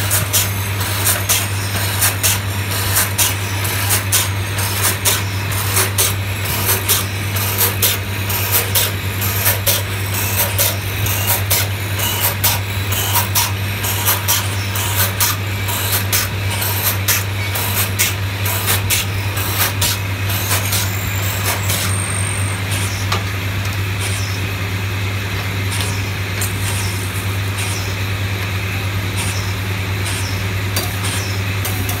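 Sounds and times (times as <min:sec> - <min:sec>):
lathe motor hum: 0:00.0 - 0:32.0.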